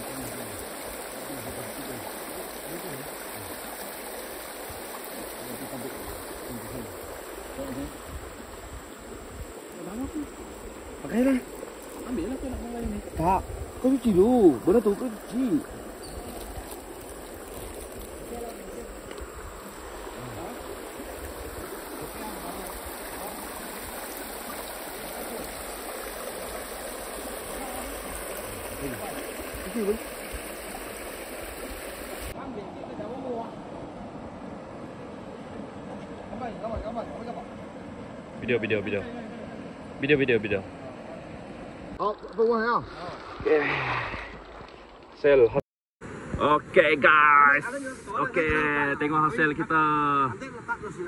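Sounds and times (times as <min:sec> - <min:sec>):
river water flowing: 0:00.0 - 0:51.0.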